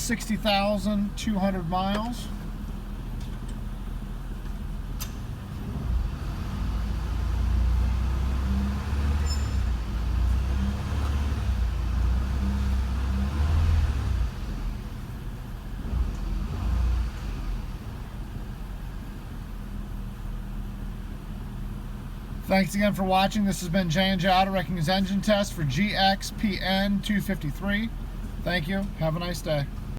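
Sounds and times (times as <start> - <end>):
car engine humming: 0.0 - 29.9.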